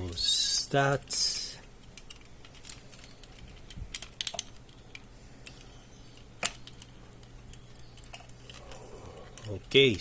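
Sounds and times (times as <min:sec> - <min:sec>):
plastic toy parts clicking: 0:01.8 - 0:10.0.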